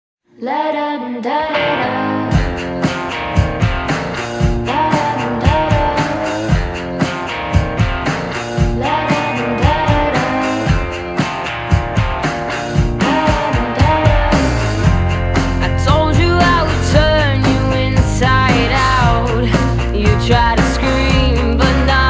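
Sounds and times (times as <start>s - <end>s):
person singing: 0.3s - 3.2s, 4.6s - 7.2s, 8.6s - 11.5s, 12.6s - 22.0s
rock song with guitar and drums: 1.5s - 22.0s.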